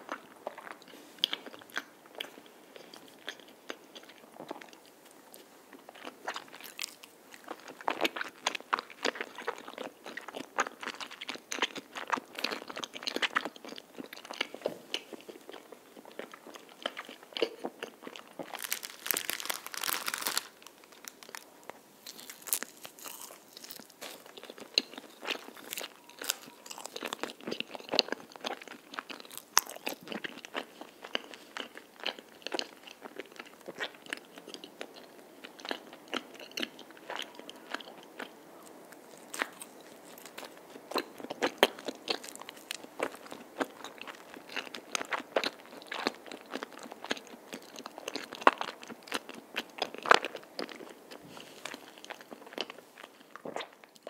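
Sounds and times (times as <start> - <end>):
chewing with mouth clicks: 0.1 - 54.0.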